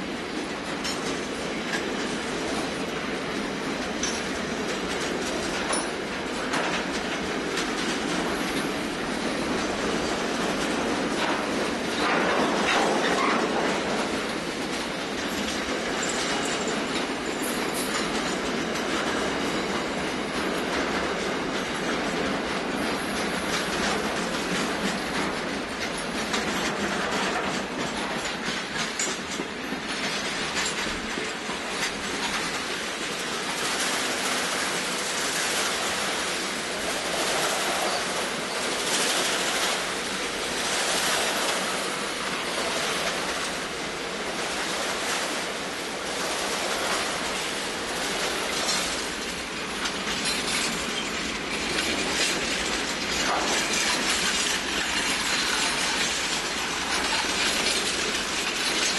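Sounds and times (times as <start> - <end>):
steel wheels rolling on rails: 0.0 - 58.9.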